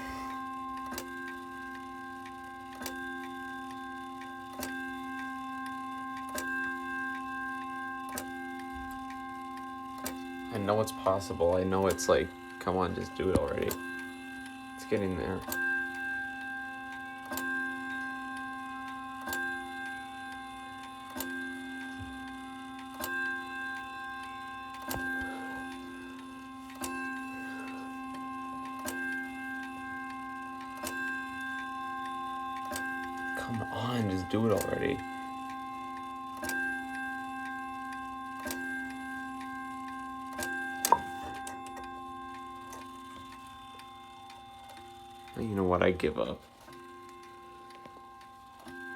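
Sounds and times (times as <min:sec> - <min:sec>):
clock chime rods ringing: 0:00.0 - 0:48.9.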